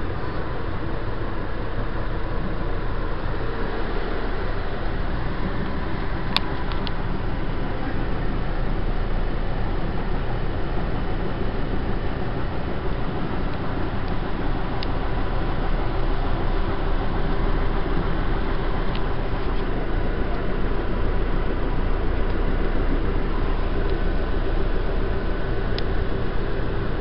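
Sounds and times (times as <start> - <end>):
faint steady hum: 0.0 - 27.0
vehicle rumble and hiss: 0.0 - 27.0.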